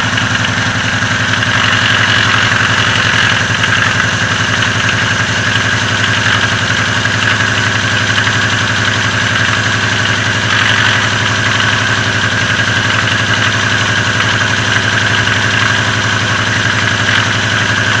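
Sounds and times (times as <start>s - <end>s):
car engine idling with knock: 0.0s - 18.0s.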